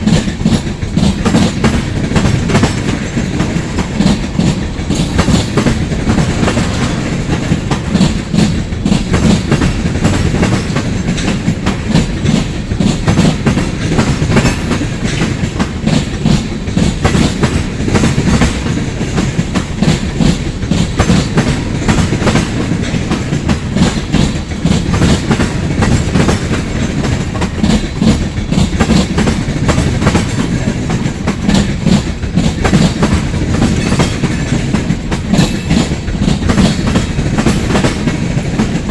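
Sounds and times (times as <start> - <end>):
freight train rumble: 0.0 - 38.9
train wheels clicking over rail joints: 0.0 - 38.9.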